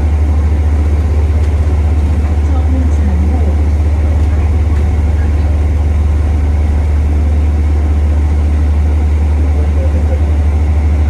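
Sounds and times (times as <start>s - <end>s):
bus heater humming: 0.0s - 11.0s.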